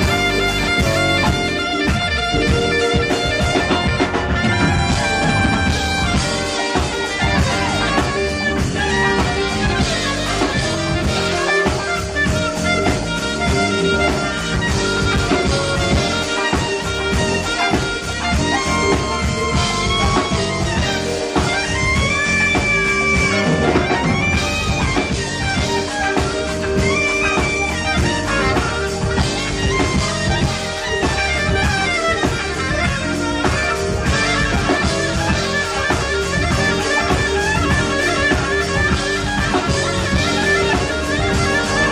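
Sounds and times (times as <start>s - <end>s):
band playing jazz: 0.0s - 41.9s
drums: 0.0s - 41.9s
saxophone lead: 0.0s - 41.9s.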